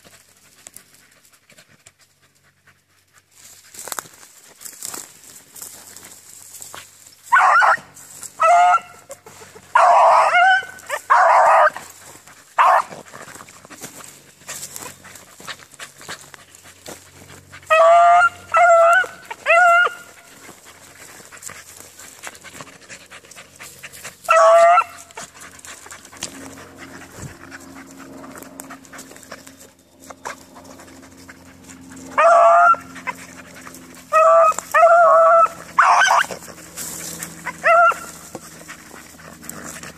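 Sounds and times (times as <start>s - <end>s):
dogs baying: 4.7s - 39.9s.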